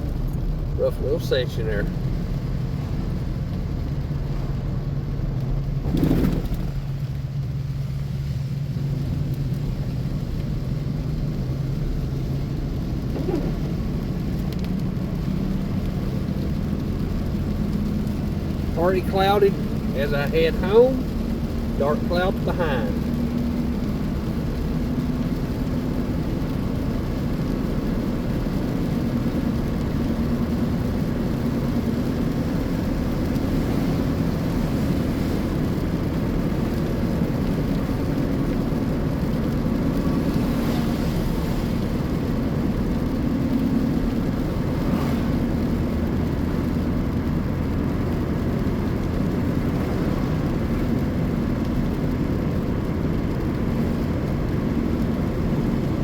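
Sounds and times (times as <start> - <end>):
car engine and tyre road noise: 0.0 - 56.0
passing vehicle noise: 0.0 - 56.0.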